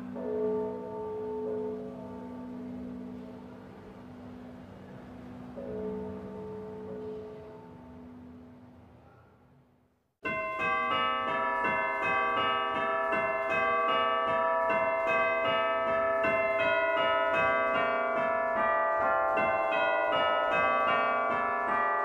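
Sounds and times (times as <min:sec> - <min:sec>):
church bells ringing: 0:00.0 - 0:08.6, 0:10.2 - 0:22.0.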